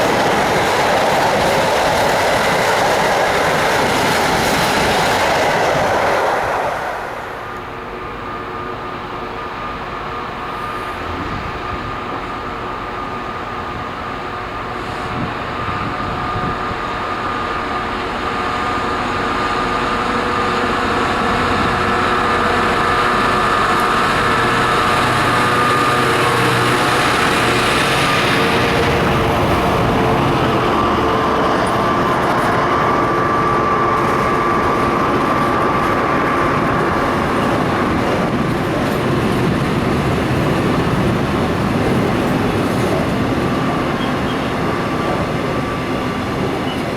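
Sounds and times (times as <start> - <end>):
diesel train running past: 0.0 - 46.9.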